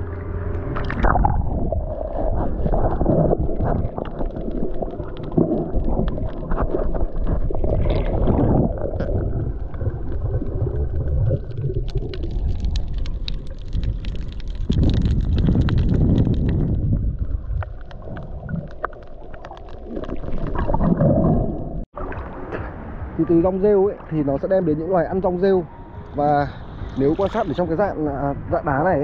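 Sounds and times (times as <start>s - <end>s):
underwater rumble and gurgling: 0.0s - 29.0s.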